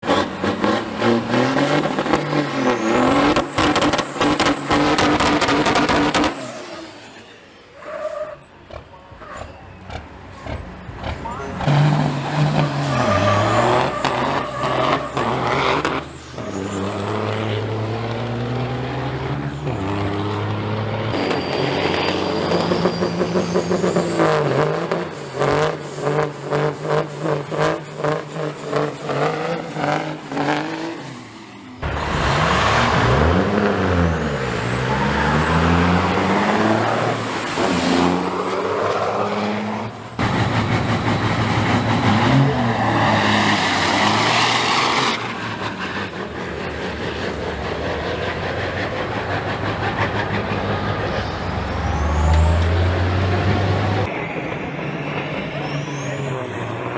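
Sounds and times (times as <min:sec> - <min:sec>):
diesel truck engines under load: 0:00.0 - 0:56.9.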